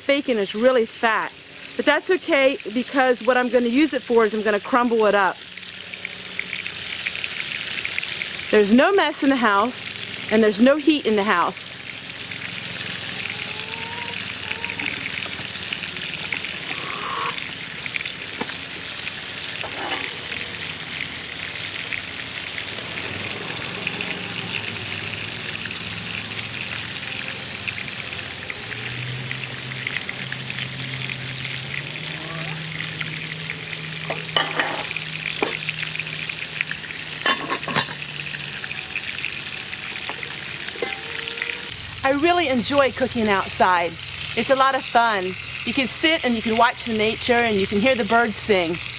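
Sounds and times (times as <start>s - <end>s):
bacon sizzling in a pan: 0.0s - 48.9s.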